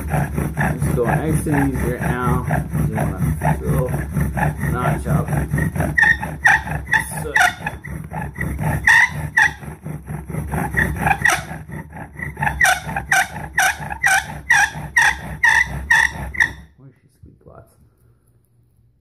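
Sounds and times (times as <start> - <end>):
bow drill squeaking and grinding: 0.0 - 16.8.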